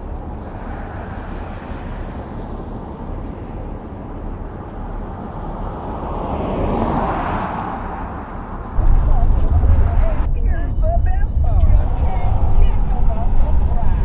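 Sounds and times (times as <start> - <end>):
vehicle passing: 0.0 - 14.0
wind and road noise: 0.0 - 14.0.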